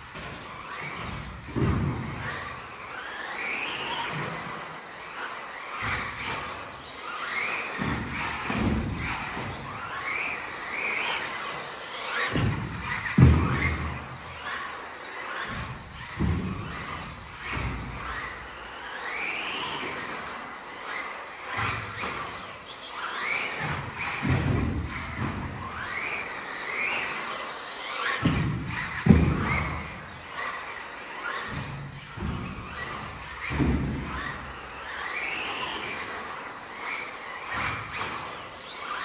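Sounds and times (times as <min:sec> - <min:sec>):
rc car motor whining: 0:00.0 - 0:39.0.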